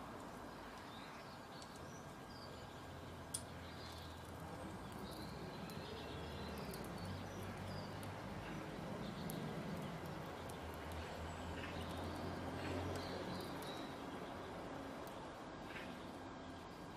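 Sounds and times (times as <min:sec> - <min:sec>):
small birds chirping: 0:00.3 - 0:16.9.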